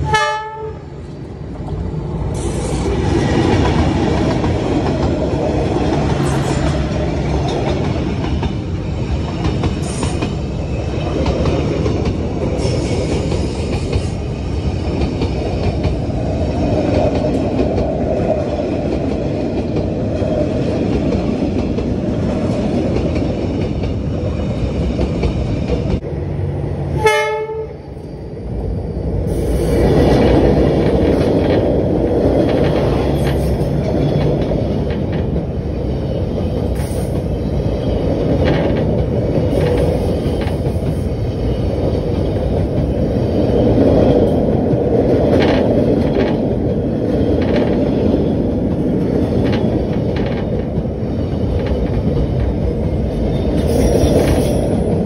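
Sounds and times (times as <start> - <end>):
train rumbling over bridge: 0.0 - 55.0.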